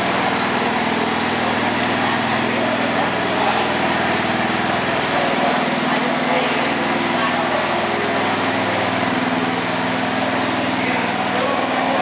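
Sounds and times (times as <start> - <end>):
small tractor engine running: 0.0 - 12.0.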